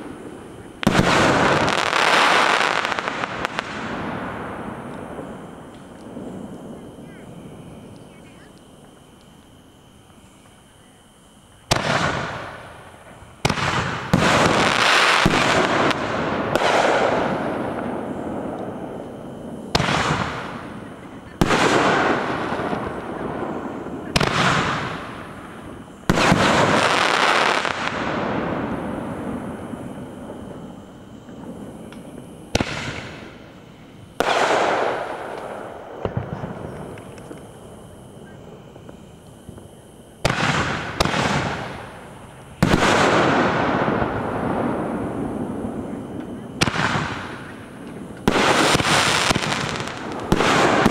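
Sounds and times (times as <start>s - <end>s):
fireworks bangs: 0.0s - 8.4s, 11.7s - 50.9s
fireworks hissing crackling: 0.0s - 50.9s.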